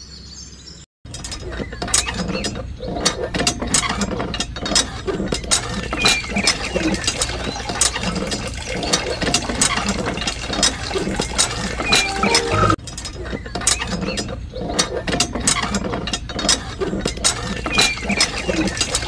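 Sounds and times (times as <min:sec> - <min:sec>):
pump squeaks: 0:01.4 - 0:12.4, 0:13.3 - 0:19.0.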